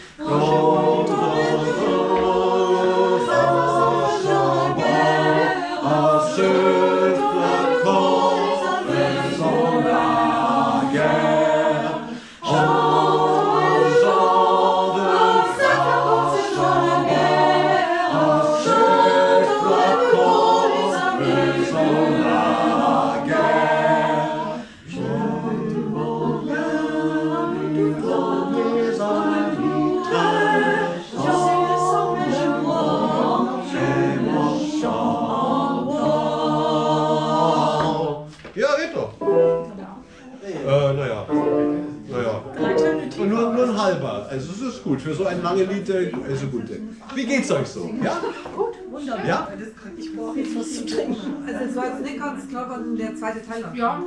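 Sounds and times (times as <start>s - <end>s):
mixed choir singing a cappella: 0.0s - 38.5s, 39.1s - 54.0s.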